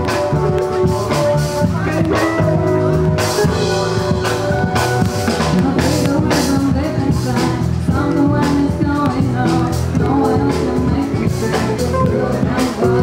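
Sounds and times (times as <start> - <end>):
drum kit beat: 0.0 - 13.0
live band playing: 0.0 - 13.0.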